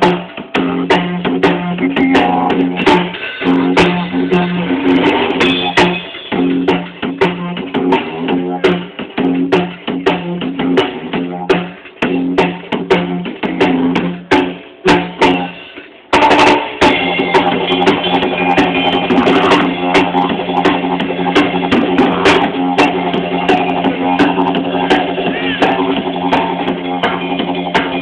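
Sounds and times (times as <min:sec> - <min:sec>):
pulsing didgeridoo drone: 0:00.0 - 0:15.6, 0:16.2 - 0:28.0
drum kit beat: 0:00.0 - 0:28.0.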